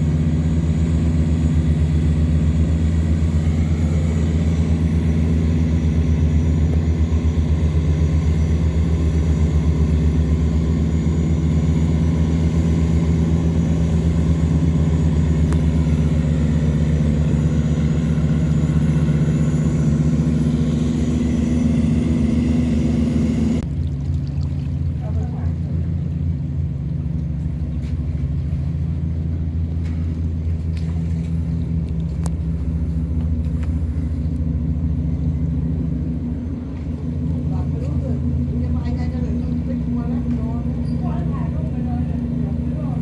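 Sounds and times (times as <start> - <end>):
heavy diesel engine throbbing: 0.0 - 43.0.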